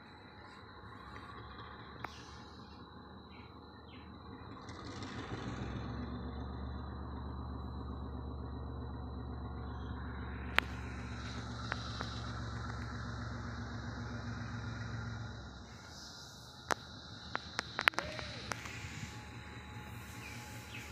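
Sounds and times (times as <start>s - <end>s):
diesel locomotive engine rumbling: 0.0s - 20.9s.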